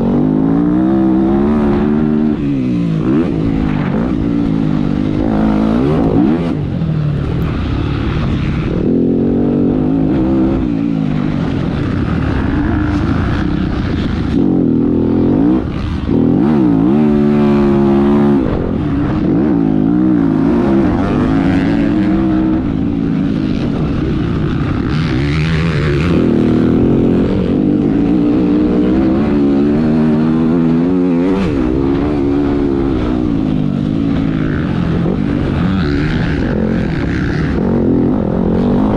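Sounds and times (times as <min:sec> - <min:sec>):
motocross bike engine revving: 0:00.0 - 0:38.9
wind and terrain rumble: 0:00.0 - 0:38.9.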